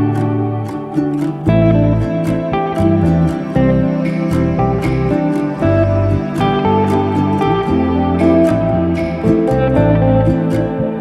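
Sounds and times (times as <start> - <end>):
background music with plucked guitar: 0.0 - 11.0.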